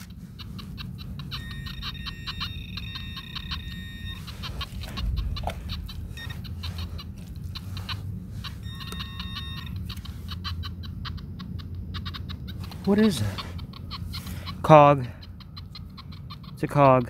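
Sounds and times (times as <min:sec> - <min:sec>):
metal detector beeping: 0:00.0 - 0:17.0.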